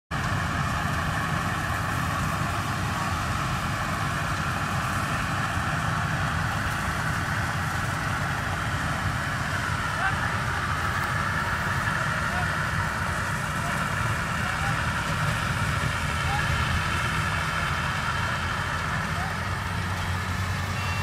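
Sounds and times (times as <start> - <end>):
combine harvester engine drone: 0.1 - 21.0.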